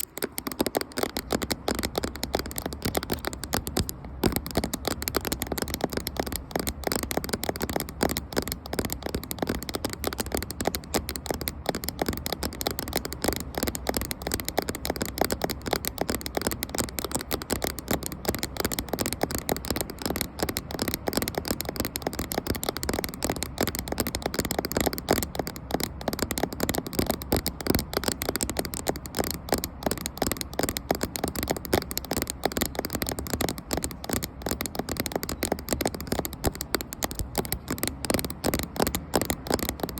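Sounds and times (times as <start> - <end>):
fast tapping on camera: 0.0 - 39.9.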